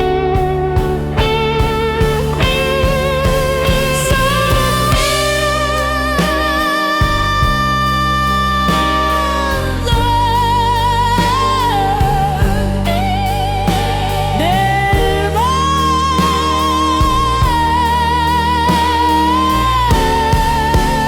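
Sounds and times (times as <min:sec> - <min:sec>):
lead guitar line with vibrato: 0:00.0 - 0:21.0
plucked accompaniment: 0:00.0 - 0:21.0
slow blues music: 0:00.0 - 0:21.0
steady bass: 0:00.0 - 0:21.0.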